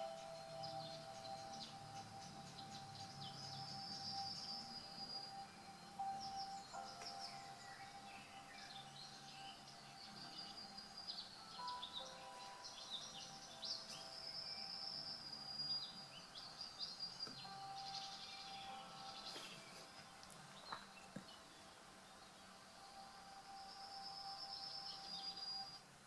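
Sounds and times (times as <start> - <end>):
birds chirping and trilling: 0.0 - 26.0.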